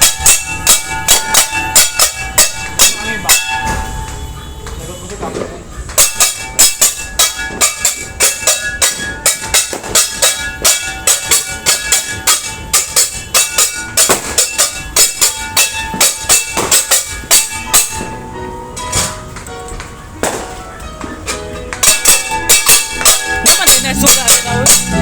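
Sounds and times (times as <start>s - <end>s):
metal banging: 0.0s - 25.0s.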